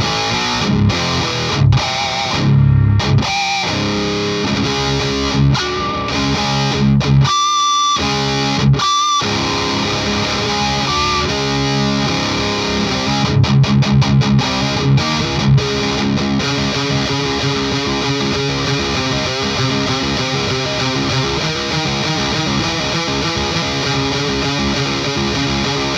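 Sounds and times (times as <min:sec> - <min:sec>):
distorted electric guitar: 0:00.0 - 0:25.9.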